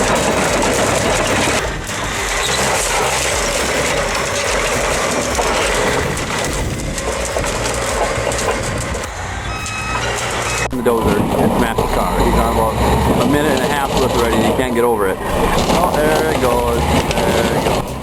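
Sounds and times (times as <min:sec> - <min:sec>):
bulldozer engine under load: 0:00.0 - 0:18.0
grinding metal: 0:00.0 - 0:18.0.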